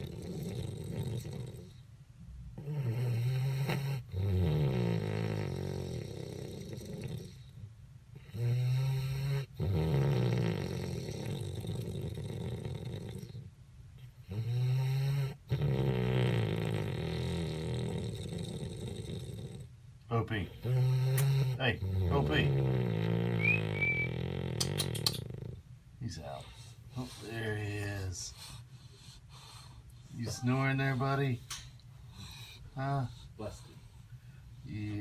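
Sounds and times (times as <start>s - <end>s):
puppy snoring: 0.0s - 1.9s, 2.5s - 35.0s.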